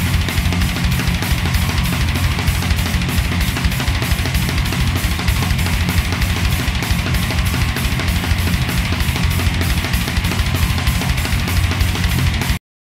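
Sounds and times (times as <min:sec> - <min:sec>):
fast drum beat: 0:00.0 - 0:12.6
loud rock music: 0:00.0 - 0:12.6.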